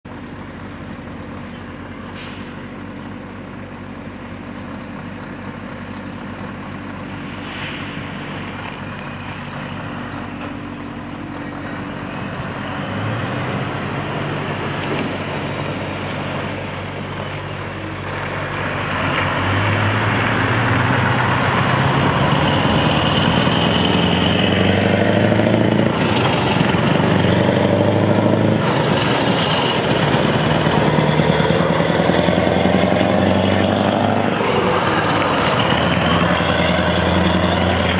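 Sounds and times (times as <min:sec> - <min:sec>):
diesel truck engine revving: 0:05.3 - 0:37.9.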